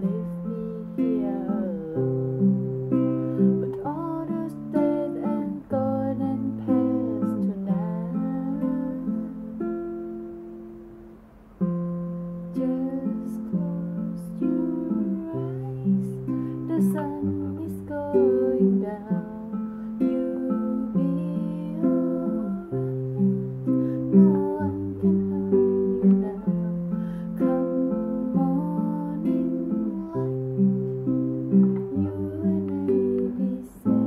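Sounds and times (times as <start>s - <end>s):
fingerpicked classical guitar: 0.0s - 34.0s.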